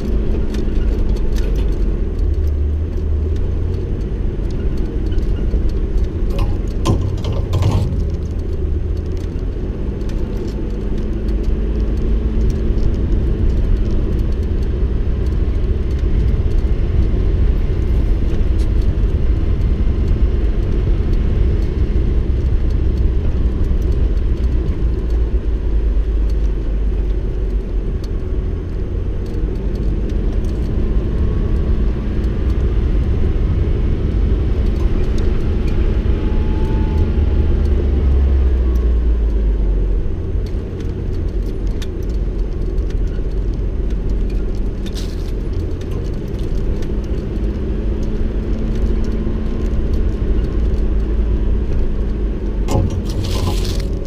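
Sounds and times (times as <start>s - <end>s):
light rattles and clicks: 0.0s - 36.2s, 37.0s - 54.0s
vehicle engine and tyres rumbling: 0.0s - 54.0s.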